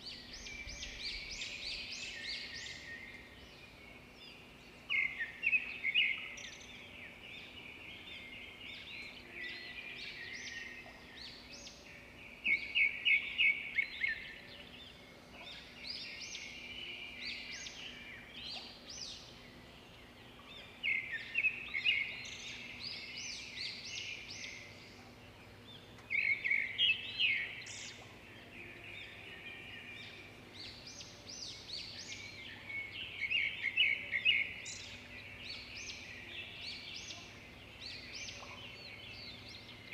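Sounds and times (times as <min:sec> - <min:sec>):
bird chirping: 0:00.0 - 0:39.9
faint steady background noise: 0:00.0 - 0:39.9.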